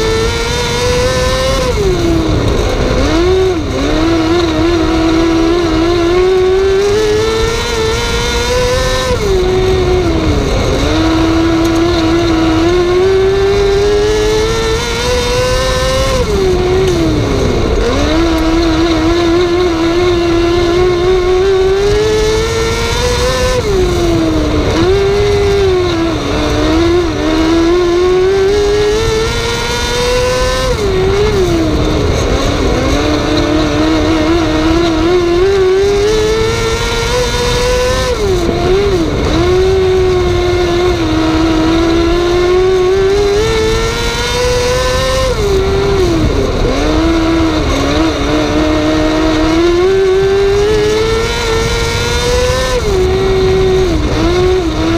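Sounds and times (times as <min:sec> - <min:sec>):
racing engine at speed: 0:00.0 - 0:54.9.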